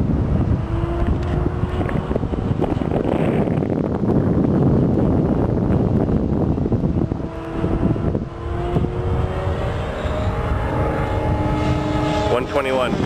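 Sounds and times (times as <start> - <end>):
model plane propeller buzzing: 0.0 - 13.0
wind on microphone: 0.0 - 13.0.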